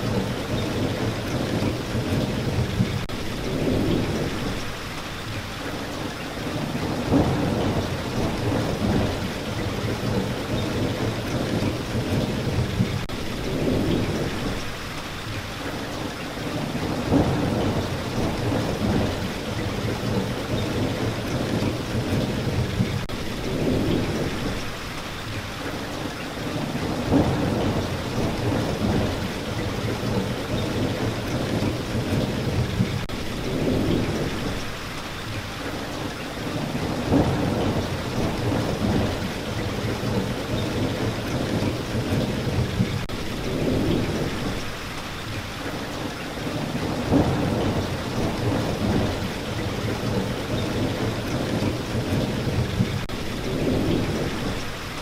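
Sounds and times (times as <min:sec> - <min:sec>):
rolling thunder rumbles: 0:00.0 - 0:04.9, 0:06.0 - 0:14.9, 0:16.0 - 0:25.3, 0:26.4 - 0:35.3, 0:36.4 - 0:44.9, 0:45.6 - 0:55.0
heavy rain falling: 0:00.0 - 0:55.0.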